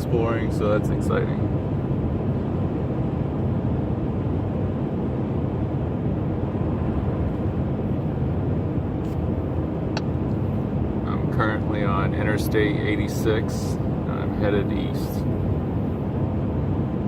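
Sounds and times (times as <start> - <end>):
pickup truck engine drone: 0.0 - 17.0.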